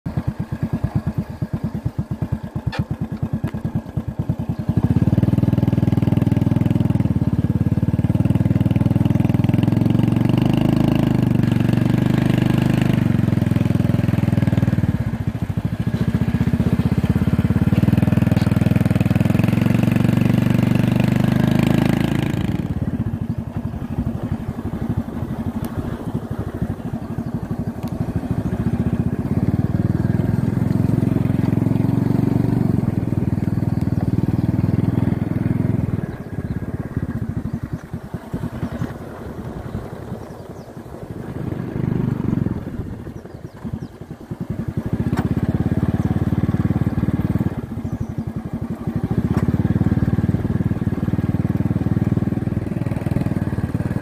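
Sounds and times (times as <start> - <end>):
motorcycle engine running: 0.1 - 54.0.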